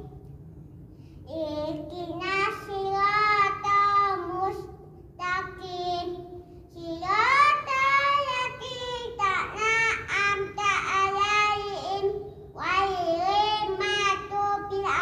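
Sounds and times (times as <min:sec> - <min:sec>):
boy chanting a prayer: 0:01.2 - 0:15.0.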